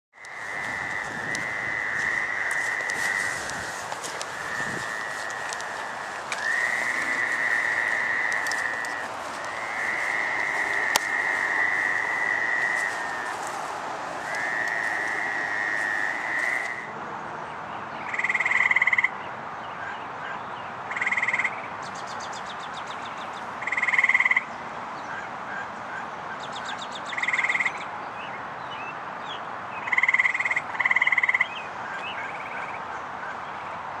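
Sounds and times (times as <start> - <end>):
toads calling with long trills: 0.2 - 16.9, 18.0 - 19.2, 20.9 - 24.5, 25.1 - 27.9, 29.8 - 33.5
treefrogs calling with short trills: 0.2 - 16.9, 18.0 - 28.9, 29.8 - 33.8.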